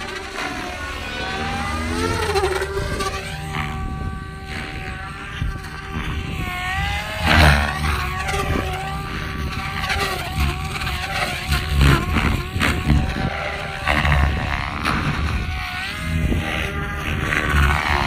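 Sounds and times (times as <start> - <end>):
rc helicopter motor whine: 0.0 - 18.0.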